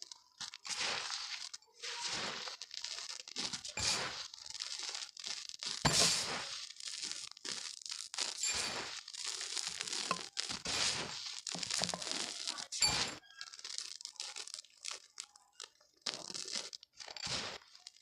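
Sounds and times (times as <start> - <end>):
chalk crunching: 0.0 - 18.0.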